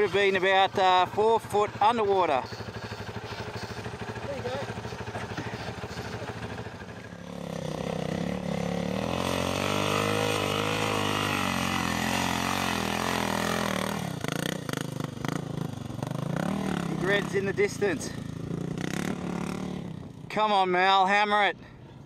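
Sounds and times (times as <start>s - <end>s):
dirt bike engine revving: 0.0s - 20.8s.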